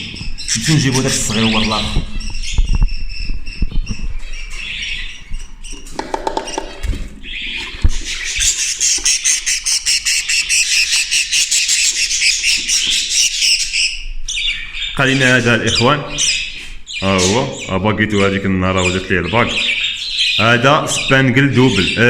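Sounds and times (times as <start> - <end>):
budgerigars squawking and chirping: 0.0 - 22.0.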